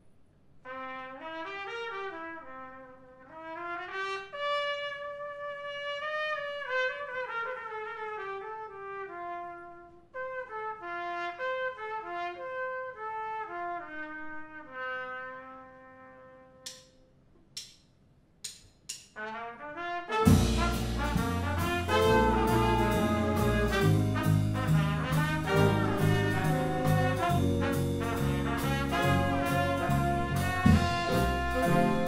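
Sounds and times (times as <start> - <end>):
solo trumpet melody: 0.6 - 16.8, 19.2 - 32.0.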